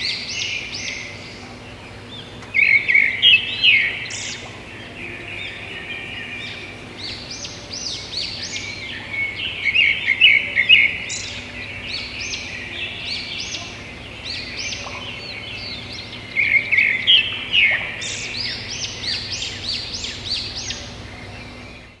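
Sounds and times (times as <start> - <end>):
small birds chirping and twittering: 0.0 - 22.0.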